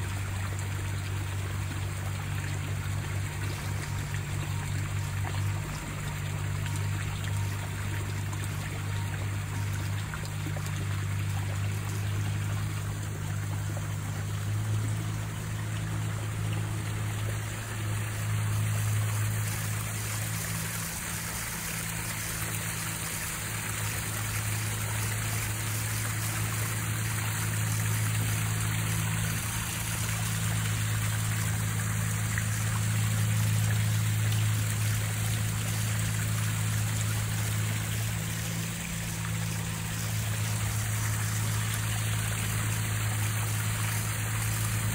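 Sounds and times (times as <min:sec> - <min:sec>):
low mechanical hum: 0:00.0 - 0:44.9
waterfall splashing into pond: 0:00.0 - 0:44.9.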